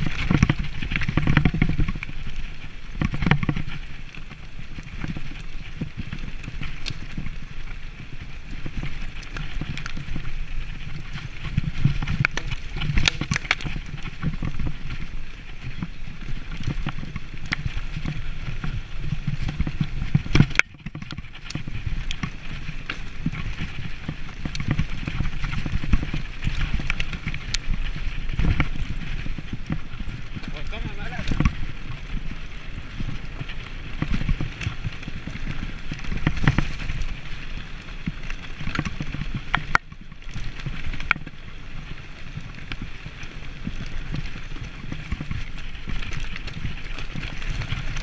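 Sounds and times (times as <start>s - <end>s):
bike rattling and knocking: 0.0s - 48.0s
bike tyres rolling on dirt: 0.0s - 48.0s
wind rumbling on microphone: 0.0s - 48.0s.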